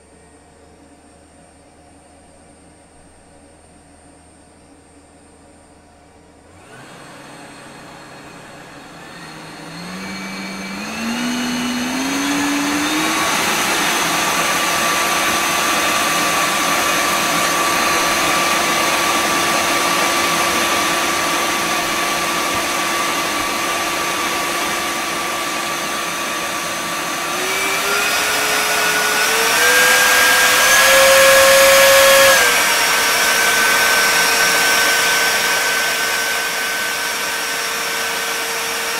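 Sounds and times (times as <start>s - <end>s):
electric motor whining: 6.5s - 38.9s.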